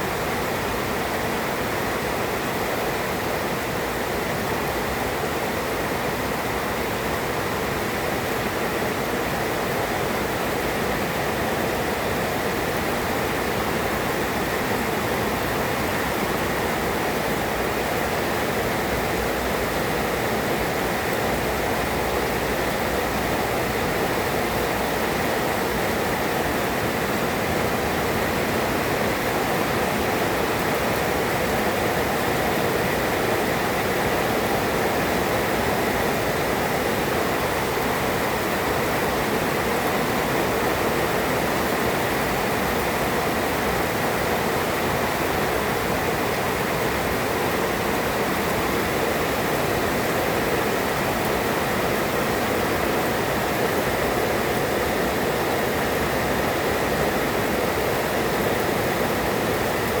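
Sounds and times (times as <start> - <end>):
heavy rain falling: 0.1 - 60.0.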